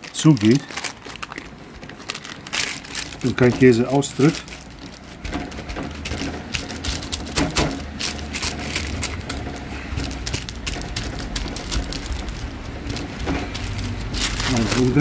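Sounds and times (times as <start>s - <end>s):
baking paper crinkling: 0.0s - 15.0s.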